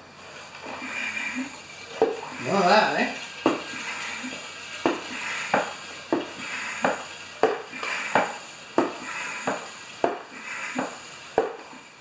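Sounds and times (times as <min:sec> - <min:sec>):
steady hiss: 0:00.0 - 0:12.0
suction tube slurping oil: 0:00.4 - 0:12.0.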